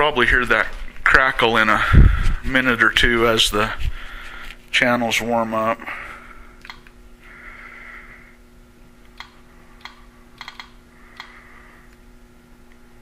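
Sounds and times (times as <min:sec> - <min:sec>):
faint steady amplifier hum: 0:00.0 - 0:13.0.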